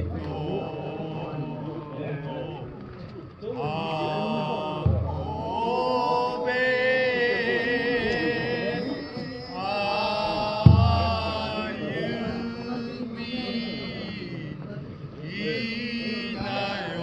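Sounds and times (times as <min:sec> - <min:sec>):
person singing work chant: 0:00.0 - 0:17.0.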